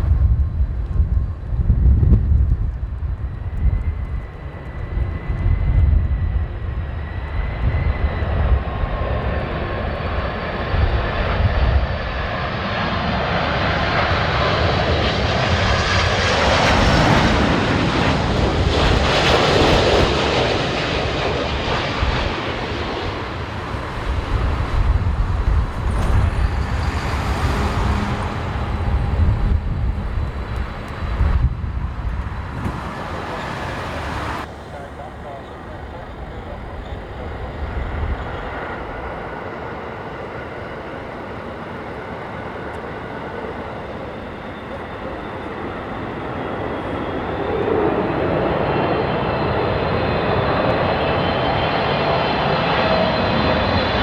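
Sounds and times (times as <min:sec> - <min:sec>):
jet airliner passing overhead: 0:00.0 - 0:54.0
wind buffeting microphone: 0:00.0 - 0:54.0.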